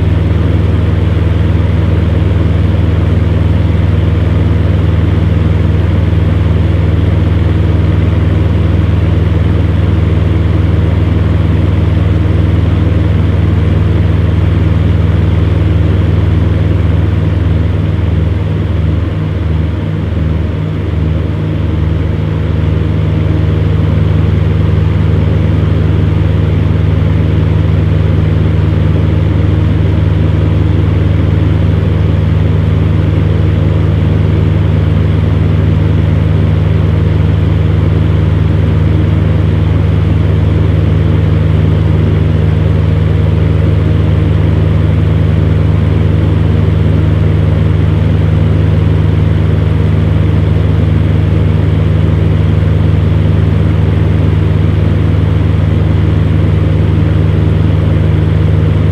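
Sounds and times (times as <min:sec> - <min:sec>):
fan heater motor hum: 0:00.0 - 0:58.9.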